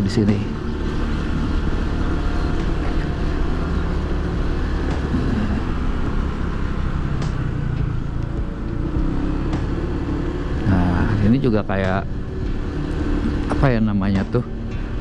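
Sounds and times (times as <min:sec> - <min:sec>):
motor scooter engine: 0:00.0 - 0:15.0
road noise: 0:00.0 - 0:15.0.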